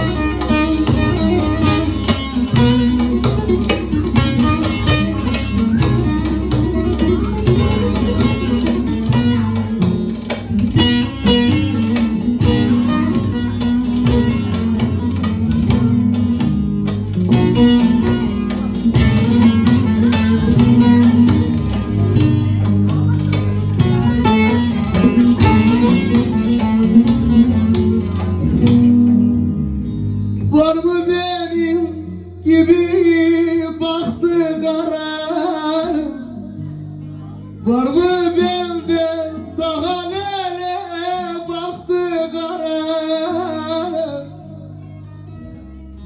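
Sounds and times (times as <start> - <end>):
plucked long-necked lute melody: 0.0 - 46.0.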